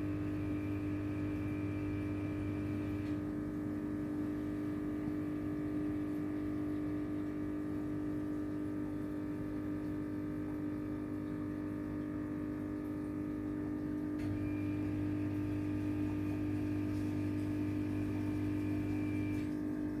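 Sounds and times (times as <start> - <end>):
deeper hum: 0.0 - 20.0
machine hum: 0.0 - 20.0.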